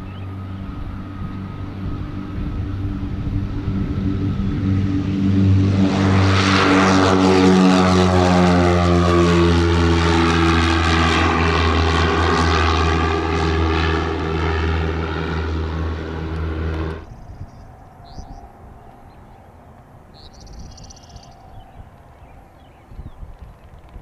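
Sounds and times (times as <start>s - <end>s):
propeller plane engines at takeoff power: 0.0s - 24.0s.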